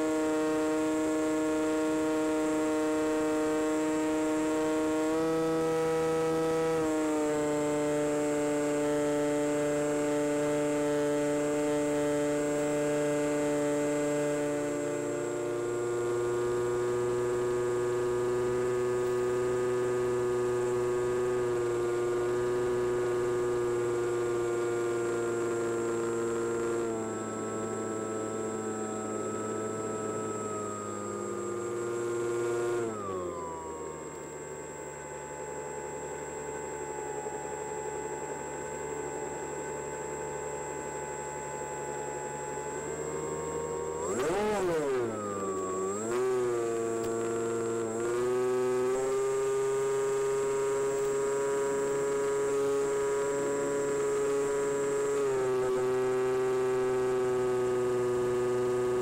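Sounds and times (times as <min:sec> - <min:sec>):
electric motor whine: 0:00.0 - 0:59.0.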